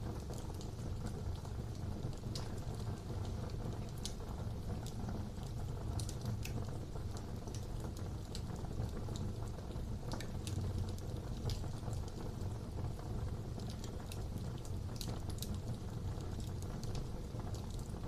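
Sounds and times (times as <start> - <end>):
fire crackles and pops: 0.0 - 18.0
fire rumbling in fireplace: 0.0 - 18.0.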